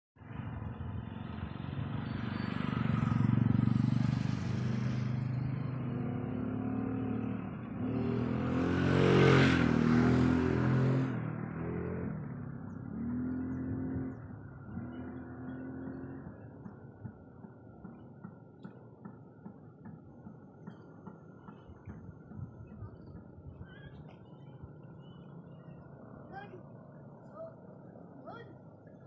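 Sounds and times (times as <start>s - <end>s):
vehicle engines passing by: 0.2s - 29.0s.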